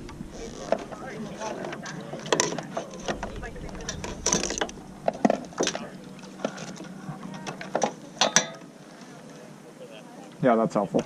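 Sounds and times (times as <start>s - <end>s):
oars clunking in oarlocks: 0.0s - 9.4s
steady low hum: 0.0s - 11.0s.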